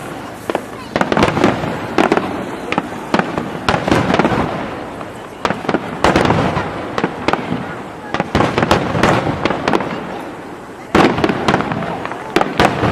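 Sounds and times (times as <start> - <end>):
aerial fireworks bangs: 0.0 - 12.9.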